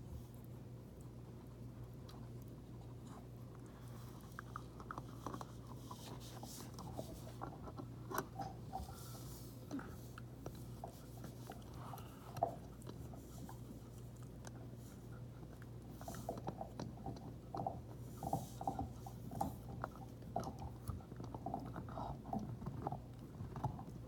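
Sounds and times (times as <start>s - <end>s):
steady low hum: 0.0s - 24.0s
dog teeth crunching a chew: 0.3s - 24.0s.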